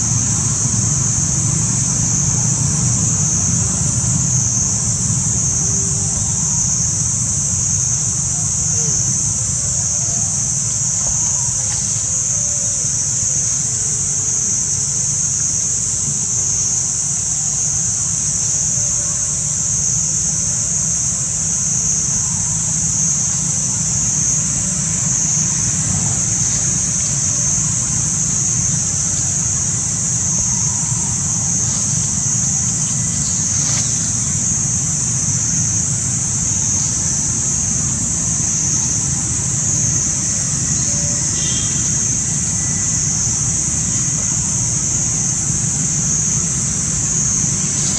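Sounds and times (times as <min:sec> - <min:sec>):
insect chorus drone: 0:00.0 - 0:47.9.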